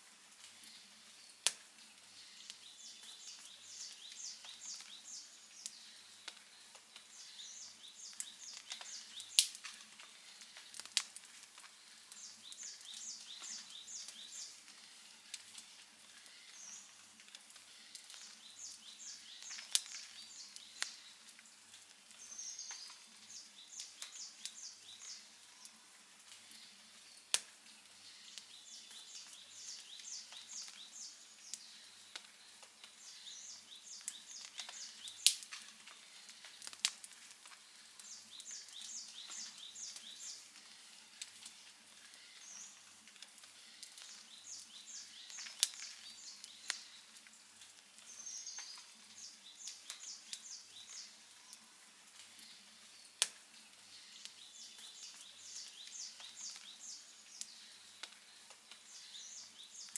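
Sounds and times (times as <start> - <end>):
wood fire crackling and popping: 0.2 - 59.9.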